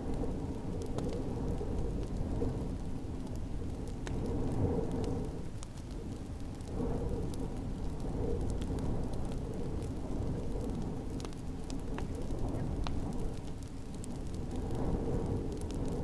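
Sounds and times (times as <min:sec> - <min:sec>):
low rumble of storm wind: 0:00.0 - 0:16.0
wood fire crackling and popping: 0:00.0 - 0:16.0.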